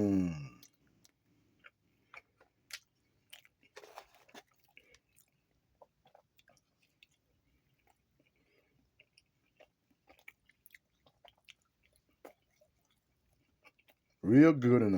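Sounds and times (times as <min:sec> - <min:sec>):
person chewing food: 0:00.3 - 0:14.2.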